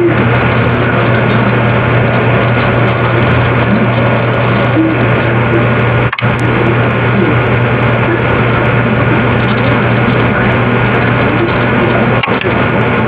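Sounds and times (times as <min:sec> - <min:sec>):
constant low hum: 0:00.0 - 0:13.0
dense noisy wash: 0:00.0 - 0:13.0.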